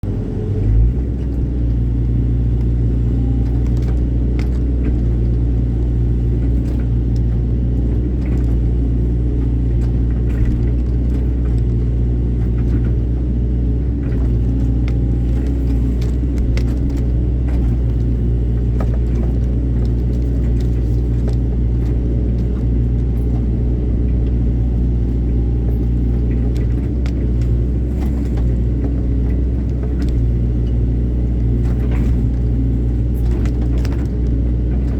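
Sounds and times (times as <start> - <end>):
excavator diesel engine running: 0.0 - 34.9
faint clicks and knocks: 0.6 - 34.9.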